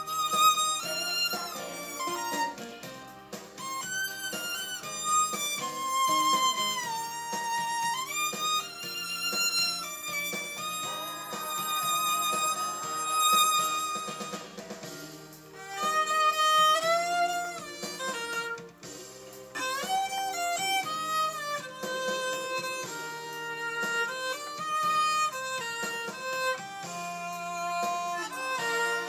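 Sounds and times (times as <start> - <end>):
muted violin melody: 0.0 - 29.0
soft accompaniment: 0.0 - 29.0.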